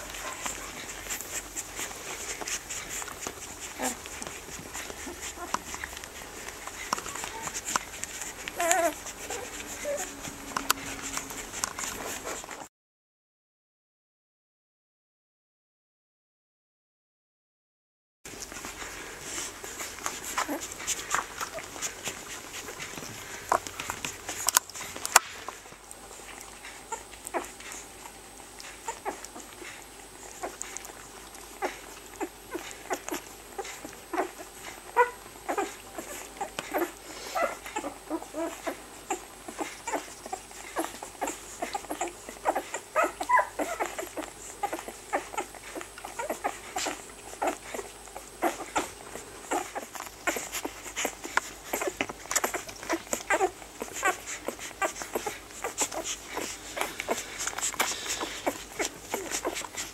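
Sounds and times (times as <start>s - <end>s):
puppies squeaking: 0.0s - 12.6s, 19.2s - 31.0s, 31.6s - 59.9s
puppies suckling: 0.0s - 12.7s, 18.3s - 59.9s.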